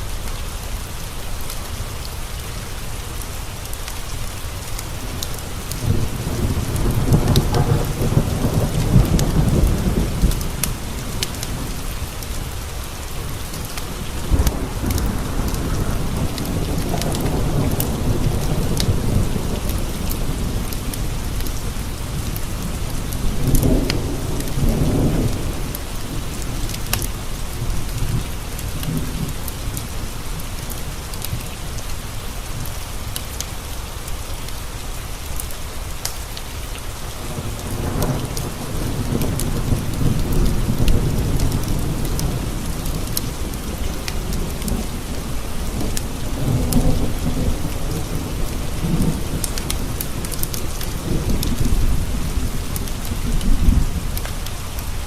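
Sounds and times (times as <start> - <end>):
rain pattering on windows: 0.0 - 55.0
rolling thunder: 5.0 - 31.8, 37.2 - 55.0.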